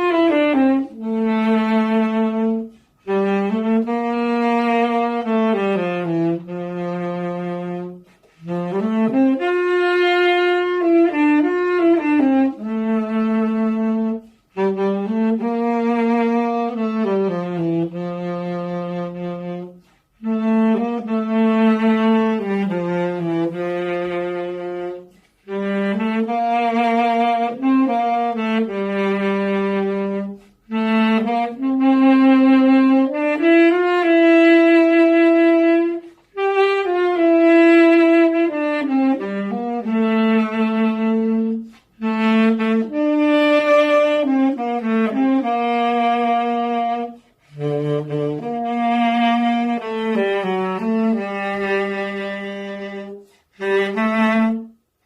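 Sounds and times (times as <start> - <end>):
tenor saxophone melody: 0.0 - 55.0.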